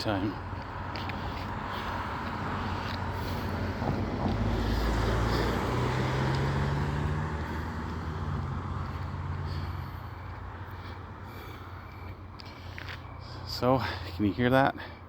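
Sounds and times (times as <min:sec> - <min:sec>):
vehicle passing by: 0:00.0 - 0:14.2.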